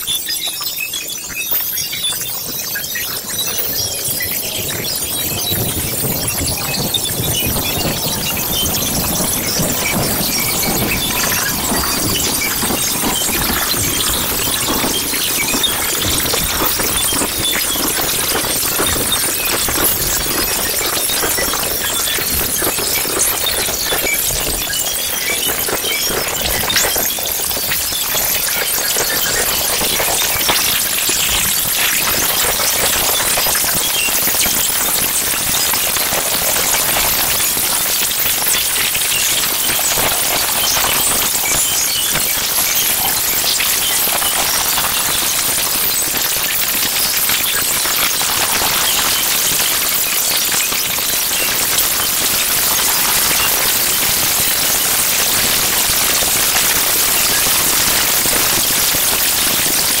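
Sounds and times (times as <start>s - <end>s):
crackling hiss noise texture: 0.0s - 60.0s.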